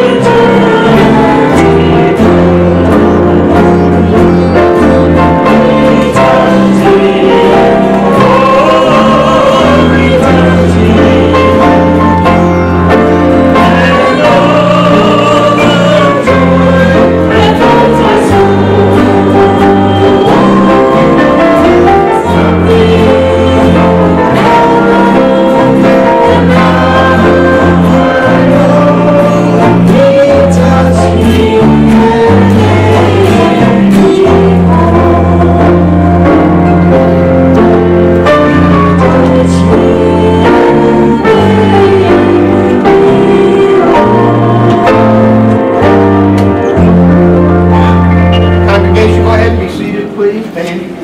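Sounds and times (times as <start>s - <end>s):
band accompaniment: 0.0s - 51.0s
congregation singing together: 0.0s - 51.0s.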